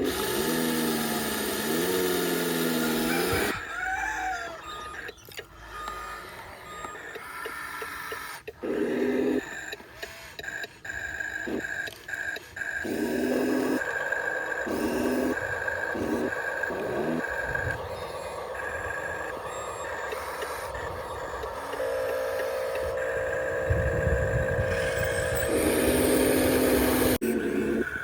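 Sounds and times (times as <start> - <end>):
model machinery running: 0.0 - 28.0
electronic beeps: 3.0 - 28.0
steady hum: 5.3 - 28.0.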